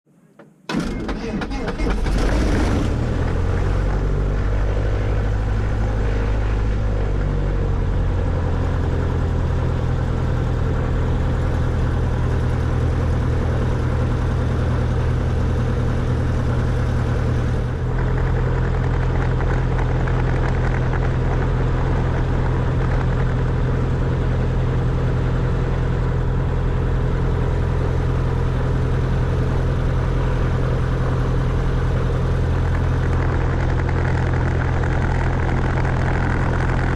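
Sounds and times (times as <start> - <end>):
small plane engine and propeller: 0.7 - 36.9.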